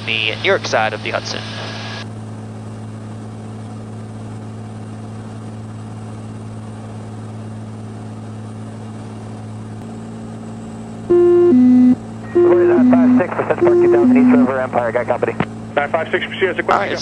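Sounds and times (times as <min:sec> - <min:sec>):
airplane engine droning: 0:00.0 - 0:17.0.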